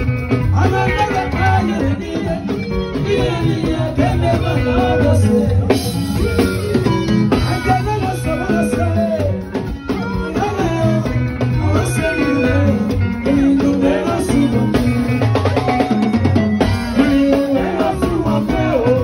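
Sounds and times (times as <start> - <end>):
bass: 0.0 - 19.0
drums: 0.0 - 19.0
man singing into microphone: 0.4 - 5.9, 7.3 - 15.2, 16.9 - 19.0.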